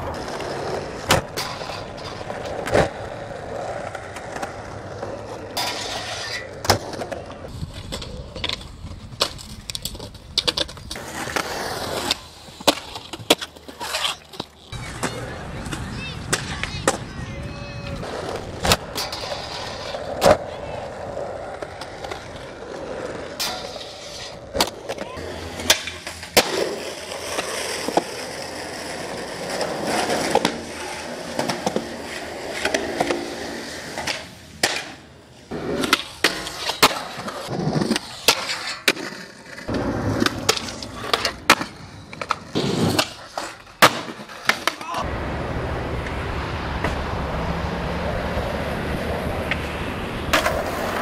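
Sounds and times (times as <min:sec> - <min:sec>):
skateboard clacks: 0:00.0 - 0:45.1, 0:49.0 - 0:51.0
skateboard wheels rolling: 0:00.0 - 0:51.0.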